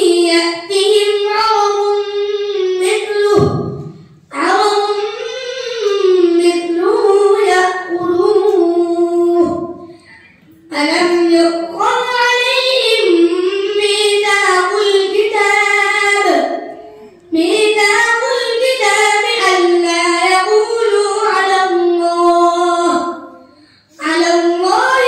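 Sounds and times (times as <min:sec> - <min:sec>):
boy chanting into a microphone: 0:00.0 - 0:25.0.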